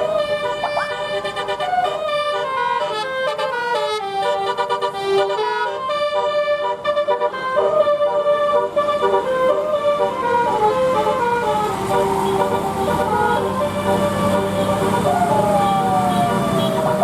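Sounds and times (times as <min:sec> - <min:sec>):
air horns playing a tune: 0:00.2 - 0:15.2.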